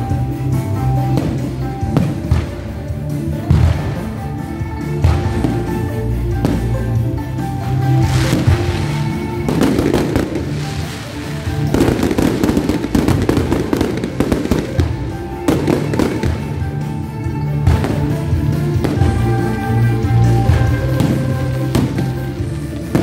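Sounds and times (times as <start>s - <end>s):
fireworks crackling: 0.0s - 23.0s
music: 0.0s - 23.0s.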